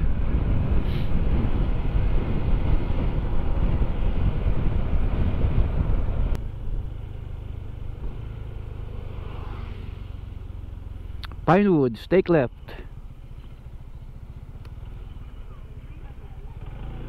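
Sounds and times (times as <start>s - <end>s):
low steady rumble: 0.0s - 17.0s
scooter engine road and wind noise: 0.0s - 17.0s.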